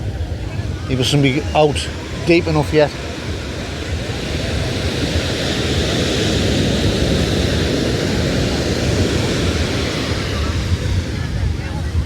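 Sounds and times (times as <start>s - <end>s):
breaking surf: 0.0s - 12.0s
wind: 0.0s - 12.0s.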